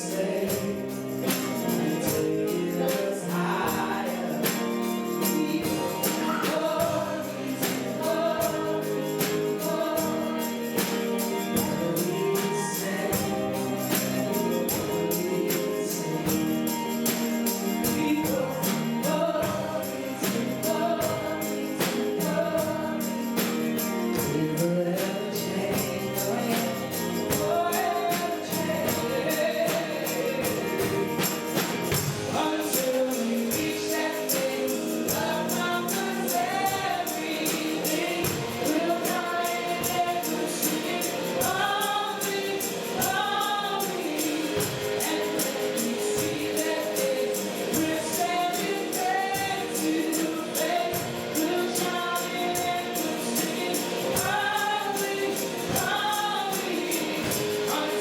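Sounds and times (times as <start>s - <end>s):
instrumental backing: 0.0s - 58.0s
tambourine beat: 0.0s - 58.0s
voices singing together: 0.0s - 58.0s.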